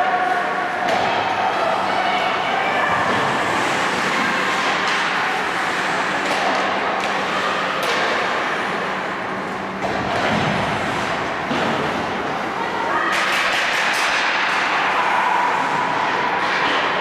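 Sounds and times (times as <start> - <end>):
arena noise with low hum: 0.0 - 17.0.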